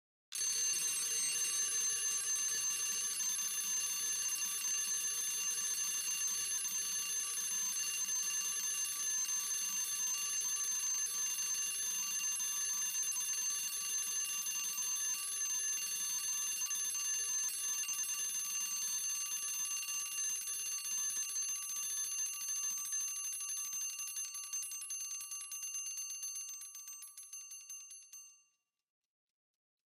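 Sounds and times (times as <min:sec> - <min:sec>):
alarm clock bell ringing: 0:00.4 - 0:28.5.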